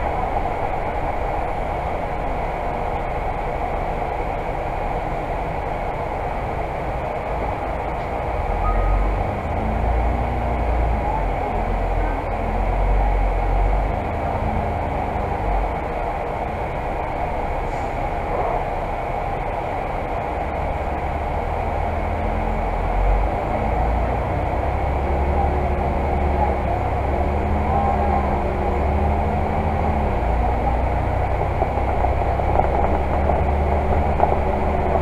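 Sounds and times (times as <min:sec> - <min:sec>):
bus diesel engine: 0:00.0 - 0:35.0
road noise: 0:00.0 - 0:35.0.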